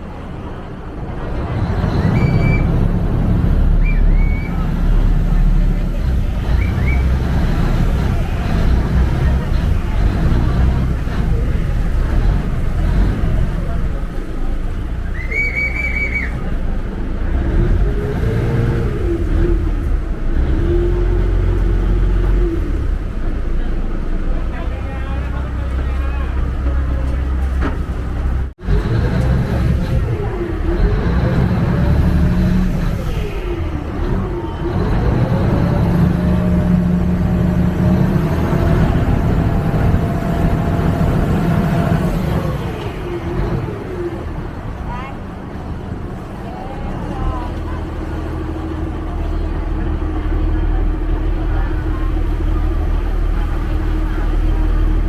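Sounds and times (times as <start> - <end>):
boat engine rumble: 0.0 - 55.0
water: 0.0 - 55.0
wind: 0.0 - 55.0.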